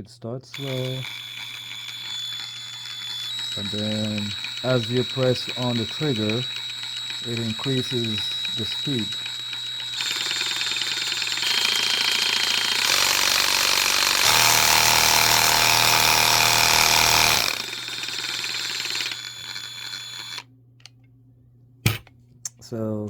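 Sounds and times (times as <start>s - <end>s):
cordless reciprocating saw running: 0.6s - 20.4s.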